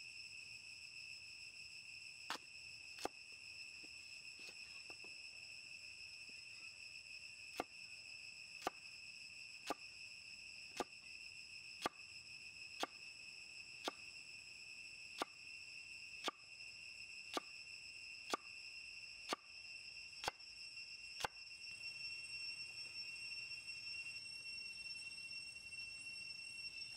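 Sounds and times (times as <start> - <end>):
high insect drone: 0.0 - 26.9.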